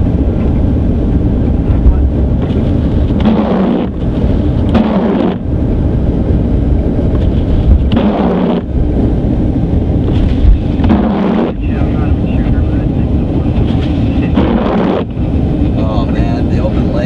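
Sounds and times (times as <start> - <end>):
car driving on highway: 0.0 - 17.0.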